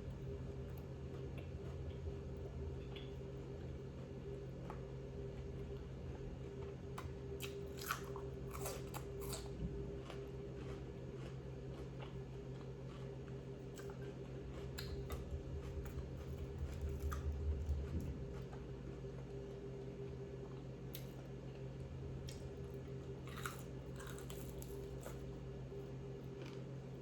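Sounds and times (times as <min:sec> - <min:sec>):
chewing crunchy food: 0:00.0 - 0:27.0
low electrical hum: 0:00.0 - 0:27.0.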